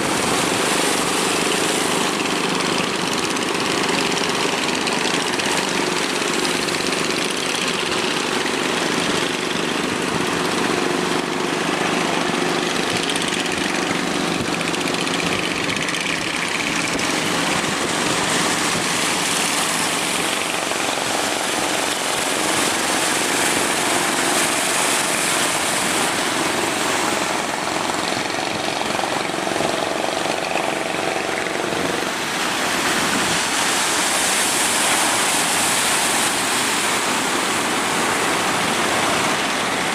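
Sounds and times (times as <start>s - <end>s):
boat engine running: 0.0s - 39.9s
surf and breaking waves: 0.0s - 39.9s.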